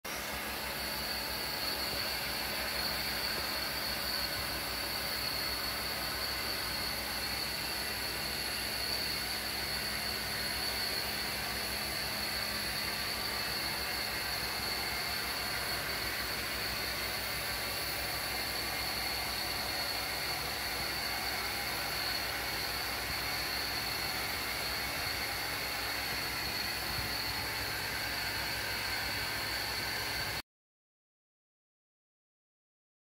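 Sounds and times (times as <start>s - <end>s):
extraction machine whining: 0.1s - 30.4s.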